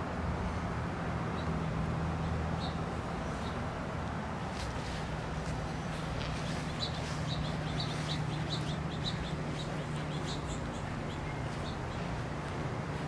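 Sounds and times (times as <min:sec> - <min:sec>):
steady low hum: 0:00.0 - 0:13.0
birds chirping: 0:01.3 - 0:13.0.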